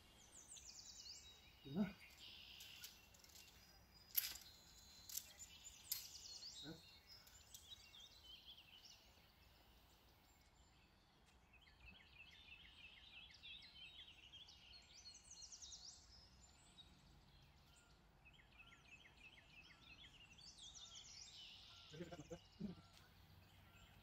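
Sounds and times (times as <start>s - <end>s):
faint songbird song: 0.0s - 24.0s.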